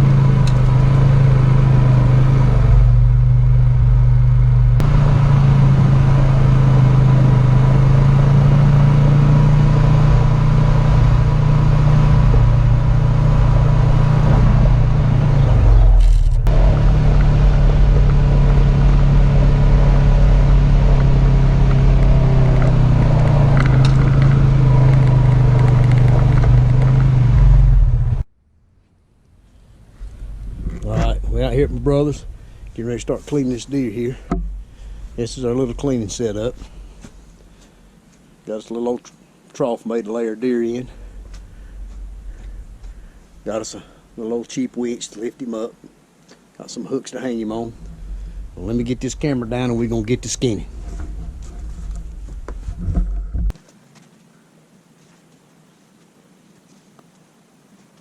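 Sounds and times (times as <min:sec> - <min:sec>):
vehicle engine and road noise: 0:00.0 - 0:39.0, 0:40.4 - 0:53.9.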